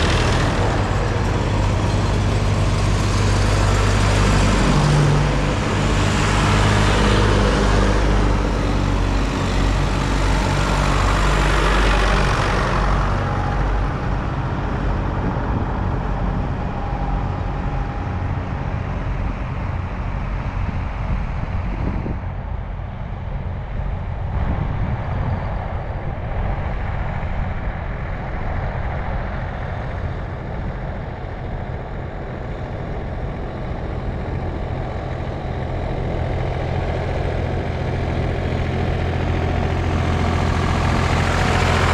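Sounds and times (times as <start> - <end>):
diesel tractor engines: 0.0 - 41.9
tyre and road noise: 0.0 - 41.9.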